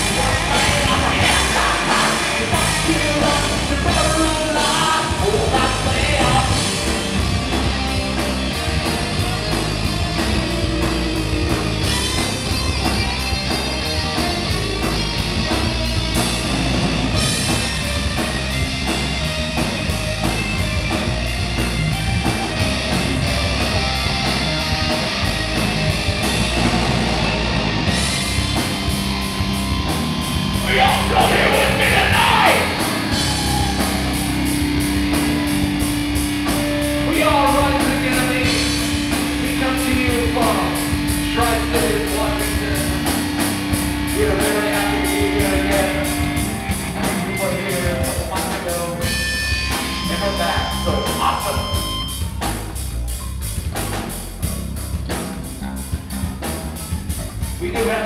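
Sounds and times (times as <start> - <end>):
live heavy rock band: 0.0 - 58.0.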